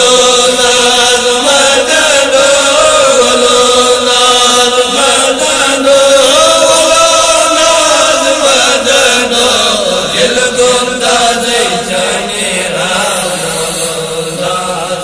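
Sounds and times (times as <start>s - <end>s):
men singing devotional chant: 0.0s - 15.0s.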